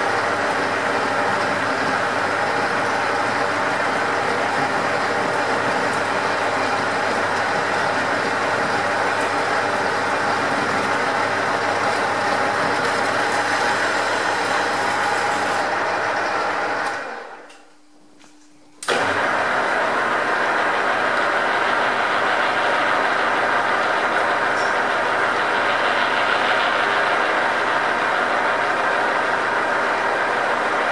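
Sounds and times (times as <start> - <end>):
metal lathe machining: 0.0 - 17.3, 18.9 - 30.9.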